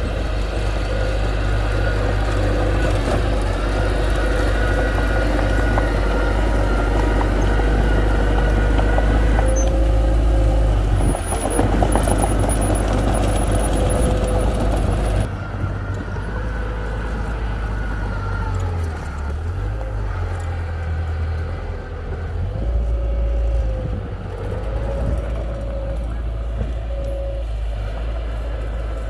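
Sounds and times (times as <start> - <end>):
heavy diesel machinery rumbling: 0.0 - 29.0.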